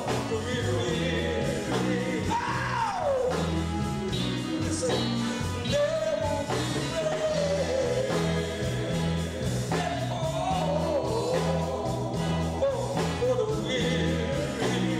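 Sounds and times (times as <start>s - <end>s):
band with bass line: 0.0s - 14.9s
men's gospel group singing: 0.0s - 14.9s.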